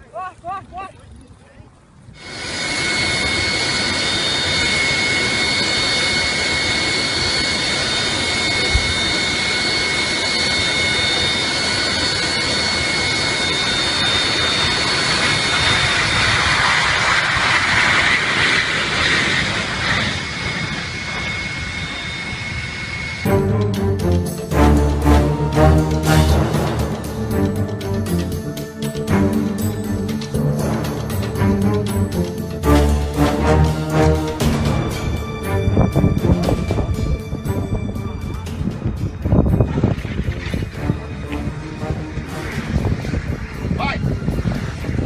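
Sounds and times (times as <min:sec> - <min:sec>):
jet engines roaring: 0:01.2 - 0:45.0
high engine whine: 0:01.9 - 0:45.0.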